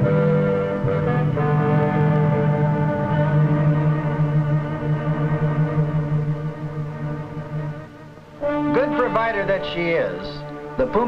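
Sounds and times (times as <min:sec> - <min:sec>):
steady low tone: 0:00.0 - 0:11.0
sustained held notes: 0:00.0 - 0:11.0.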